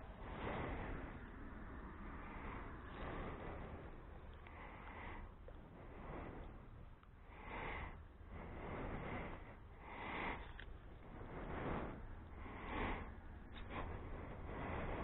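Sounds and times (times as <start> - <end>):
low steady rumble: 0.0 - 15.0
person breathing through nose: 0.0 - 15.0.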